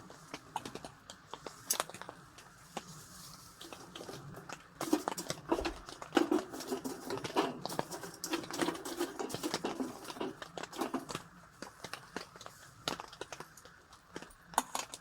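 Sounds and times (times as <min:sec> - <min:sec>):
rain pattering on a tent: 0:00.0 - 0:15.0.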